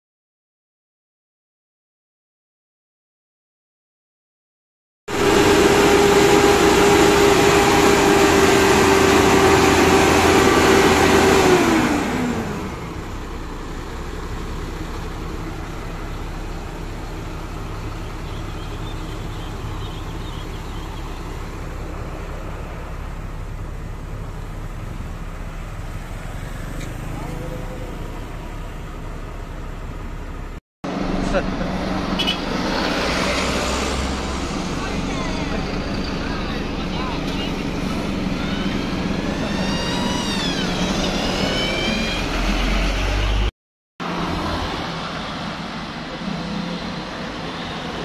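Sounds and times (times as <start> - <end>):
diesel truck engine revving and idling: 5.1 - 48.0.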